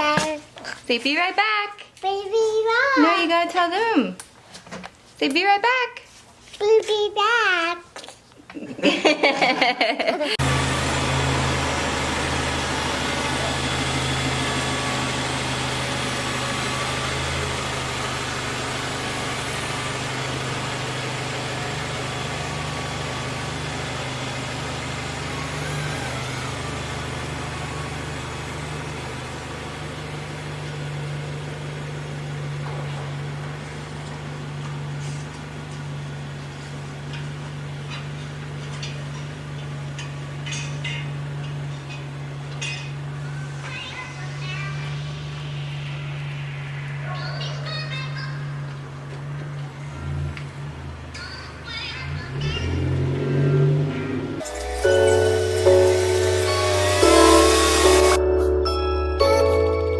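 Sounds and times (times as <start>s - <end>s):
car engine running: 9.0s - 58.2s.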